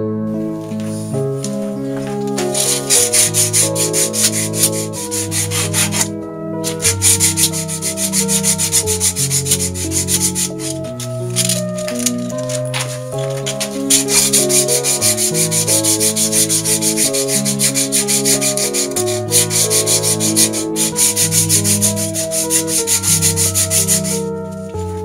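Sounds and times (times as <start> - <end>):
background music of held chords: 0.0 - 25.0
sanding belt rasping on dowel: 2.4 - 24.3.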